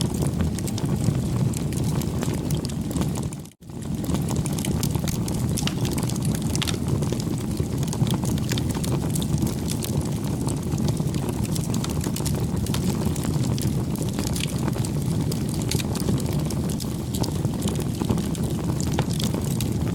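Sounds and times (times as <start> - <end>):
burning wood crackling: 0.0 - 19.9
campfire flames rumbling: 0.0 - 19.9.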